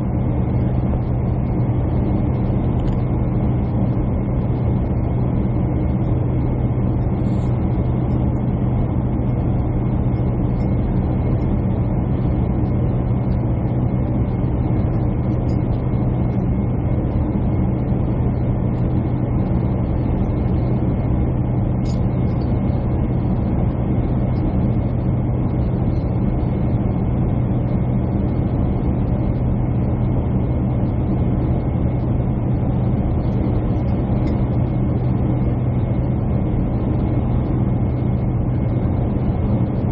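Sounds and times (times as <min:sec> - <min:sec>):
jet cabin engine drone: 0:00.0 - 0:39.9.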